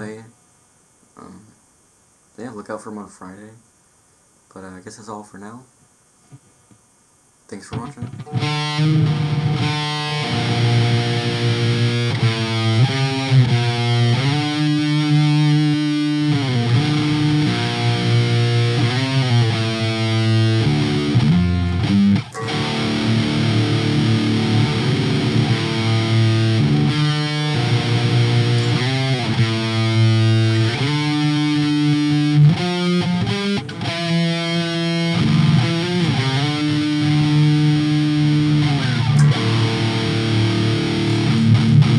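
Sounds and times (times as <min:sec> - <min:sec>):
distorted electric guitar riffs: 0:07.7 - 0:41.9.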